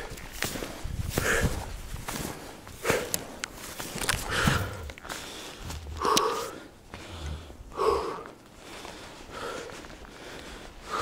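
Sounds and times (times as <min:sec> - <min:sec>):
person breathing heavily: 0:00.0 - 0:03.5, 0:04.1 - 0:11.0.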